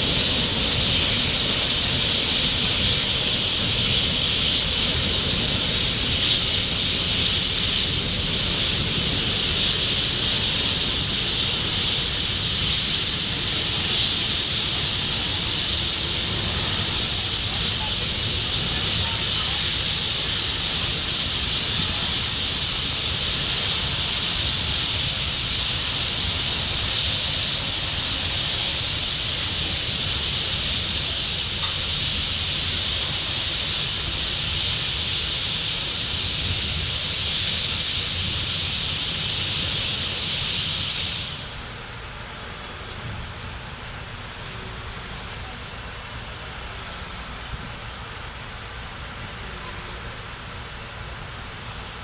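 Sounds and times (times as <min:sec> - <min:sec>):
gas burners hissing: 0:00.0 - 0:52.0
tractor engine rumble: 0:00.0 - 0:52.0.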